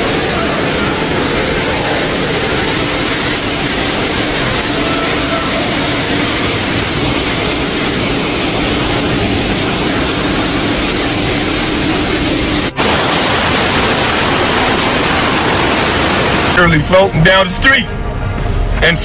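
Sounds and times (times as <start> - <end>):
loud steady rushing noise: 0.0 - 19.0.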